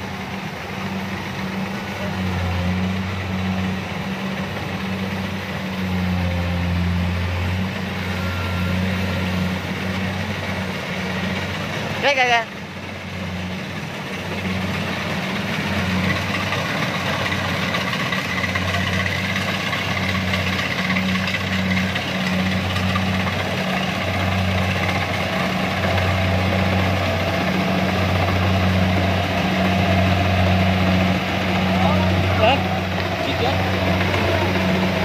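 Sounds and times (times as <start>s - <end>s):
combine harvester engine running: 0.0s - 35.0s.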